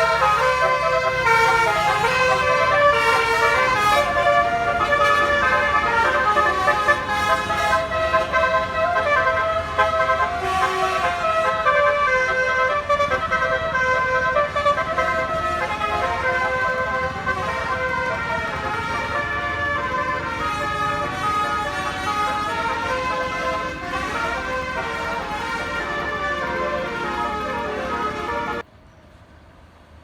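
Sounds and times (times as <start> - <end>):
musical air horn playing a tune: 0.0 - 28.6
vehicle rumble: 0.0 - 30.0.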